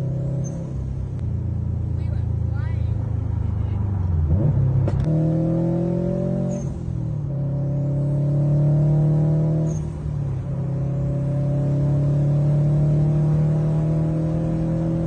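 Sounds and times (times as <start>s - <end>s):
engine rumbling and revving: 0.0s - 15.0s.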